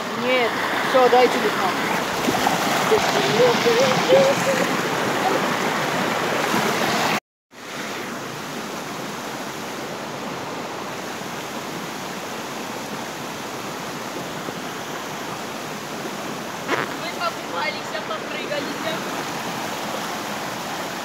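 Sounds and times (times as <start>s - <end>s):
river water rushing over rocks: 0.0s - 21.0s.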